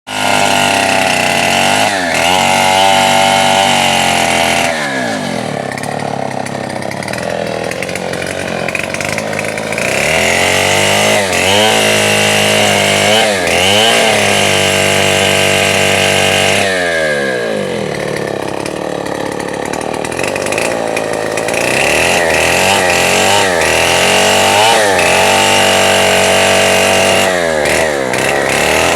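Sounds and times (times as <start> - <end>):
chainsaw engine revving: 0.1 - 28.9.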